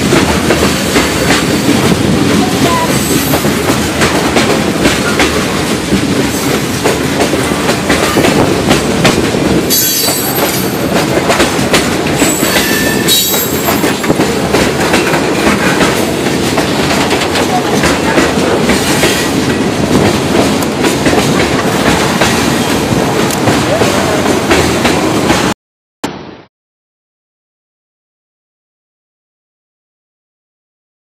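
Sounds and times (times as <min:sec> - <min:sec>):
freight train rumbling past: 0:00.0 - 0:25.6.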